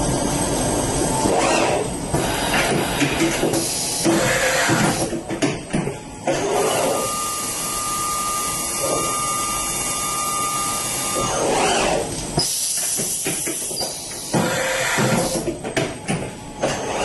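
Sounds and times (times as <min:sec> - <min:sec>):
machine high whine: 0:00.0 - 0:05.2, 0:05.8 - 0:17.0.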